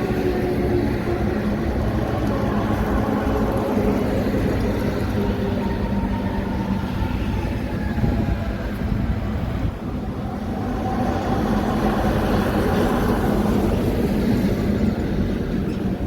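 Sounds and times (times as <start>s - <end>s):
heavy vehicle rumbling: 0.0s - 16.0s.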